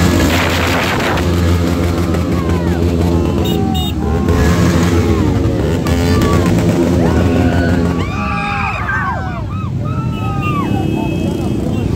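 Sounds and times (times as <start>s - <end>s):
motorcycle engines droning: 0.0s - 11.9s
voices: 1.9s - 11.9s.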